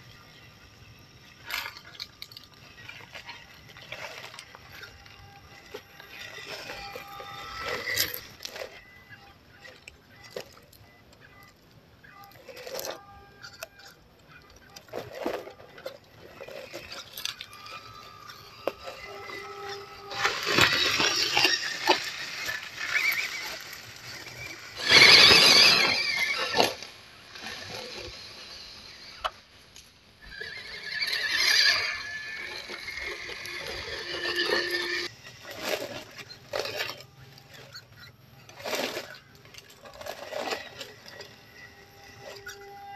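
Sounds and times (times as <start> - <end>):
electric motors whining: 0.0 - 42.9
tyres crunching dirt and leaves: 1.4 - 11.5, 12.1 - 42.6.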